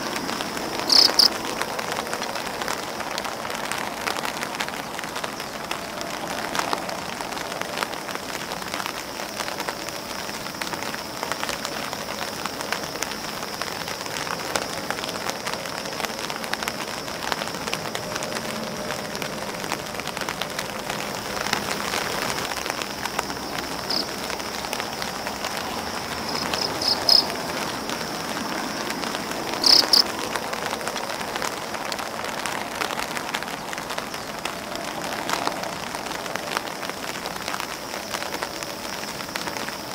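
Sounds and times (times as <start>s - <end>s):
rain pattering on an umbrella: 0.0s - 39.9s.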